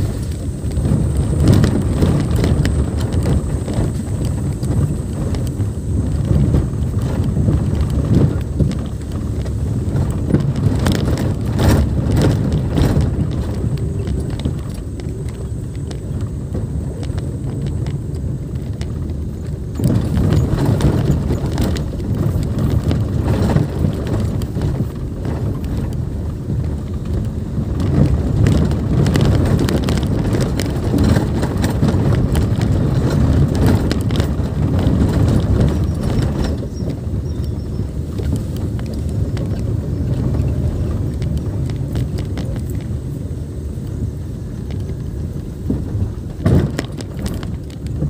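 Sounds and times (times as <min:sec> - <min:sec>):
car road and engine rumble: 0:00.0 - 0:48.0
stones crackling under tyres: 0:00.0 - 0:48.0.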